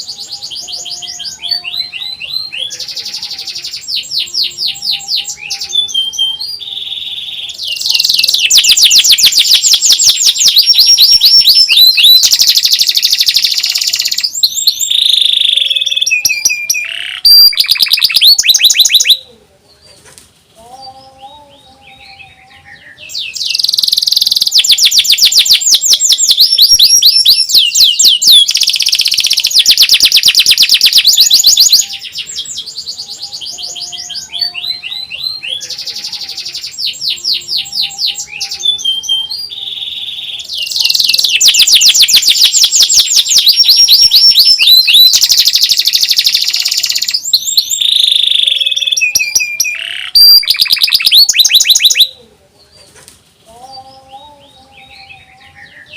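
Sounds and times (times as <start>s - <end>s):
canary singing rapid trills: 0.0s - 19.2s, 22.3s - 52.2s.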